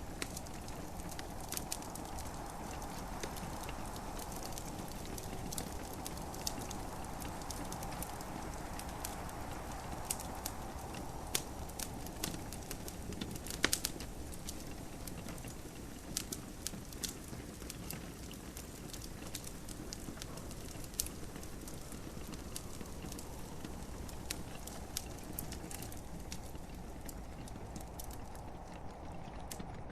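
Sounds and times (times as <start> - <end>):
gentle rain hiss: 0.0 - 29.9
wood fire crackling and popping: 0.0 - 29.9.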